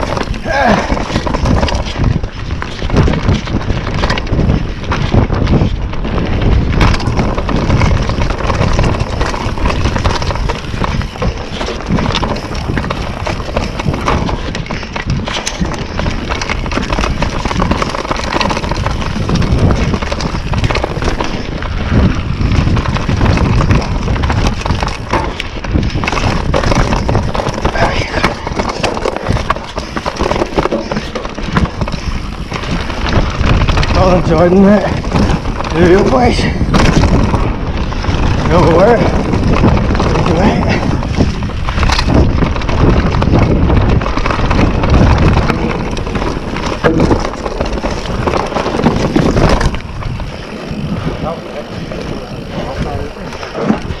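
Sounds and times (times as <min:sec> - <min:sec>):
bike rattling over bumps: 0:00.0 - 0:54.0
bike tyres rumbling on dirt: 0:00.0 - 0:54.0
wind on camera microphone: 0:00.0 - 0:54.0.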